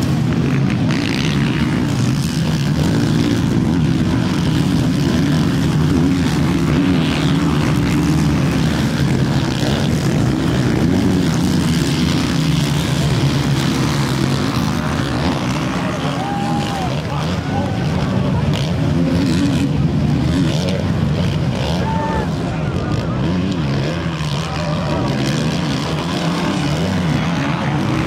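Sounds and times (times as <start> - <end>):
motocross bikes revving past: 0.0 - 28.0.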